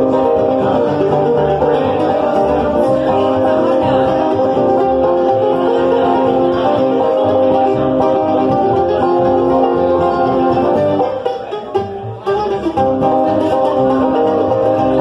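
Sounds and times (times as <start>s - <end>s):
acoustic guitar: 0.0s - 15.0s
banjo: 0.0s - 15.0s
mandolin: 0.0s - 15.0s
upright bass: 0.0s - 15.0s.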